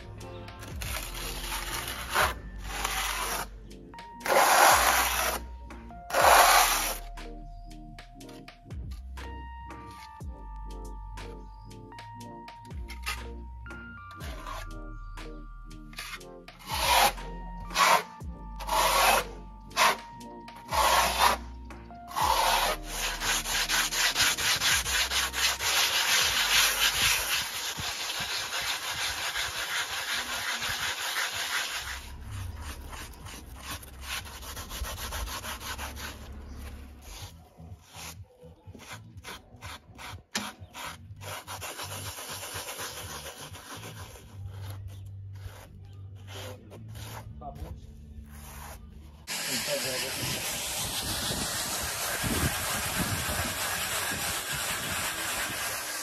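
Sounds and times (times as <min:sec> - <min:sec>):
sponge rubbing render: 0:00.6 - 0:03.6, 0:04.2 - 0:07.1, 0:14.2 - 0:14.8, 0:15.8 - 0:56.0
trowel scraping render: 0:00.6 - 0:05.5, 0:06.1 - 0:07.1, 0:12.8 - 0:13.4, 0:14.2 - 0:15.0, 0:15.8 - 0:56.0.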